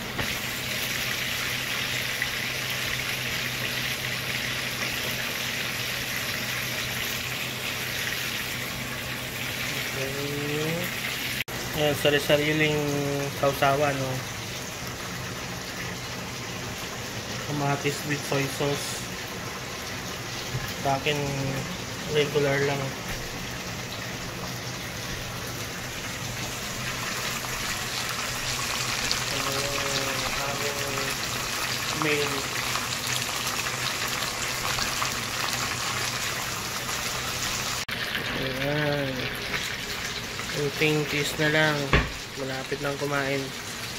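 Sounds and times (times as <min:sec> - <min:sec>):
fish sizzling in hot oil: 0:00.0 - 0:43.9.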